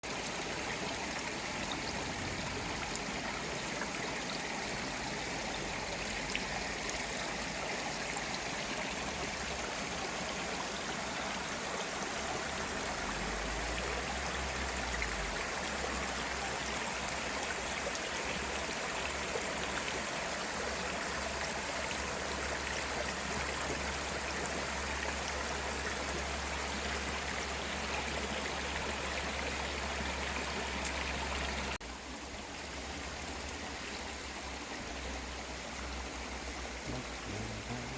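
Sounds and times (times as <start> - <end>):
stream flowing: 0.0 - 37.9.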